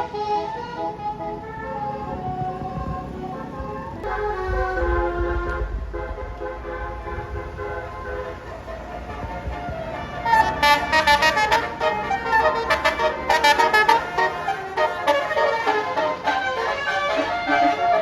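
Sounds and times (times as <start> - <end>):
bus engine rumble: 0.0 - 18.0
musical air horn tune: 0.0 - 18.0.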